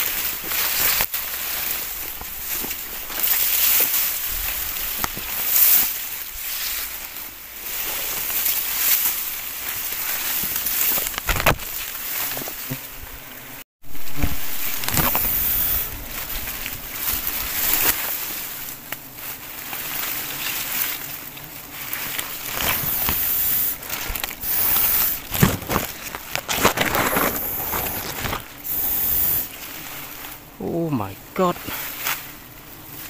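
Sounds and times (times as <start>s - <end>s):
grass and leaves rustling: 0.0s - 33.0s.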